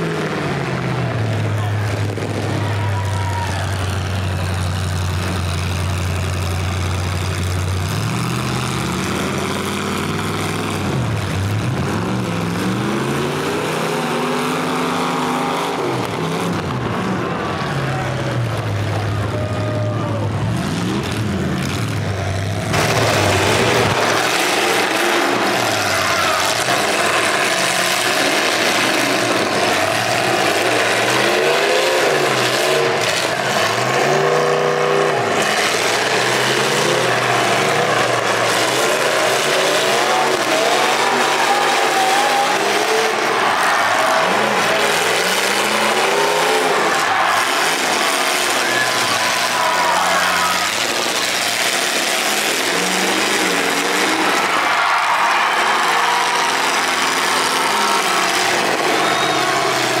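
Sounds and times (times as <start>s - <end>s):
car engines revving: 0.0s - 60.0s.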